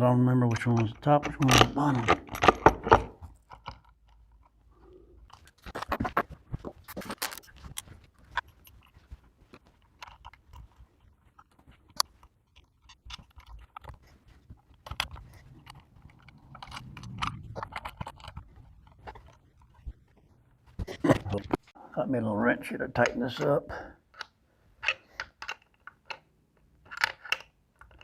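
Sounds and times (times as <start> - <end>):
parts clicking and scraping in hands: 0.0 - 21.8, 22.9 - 28.0.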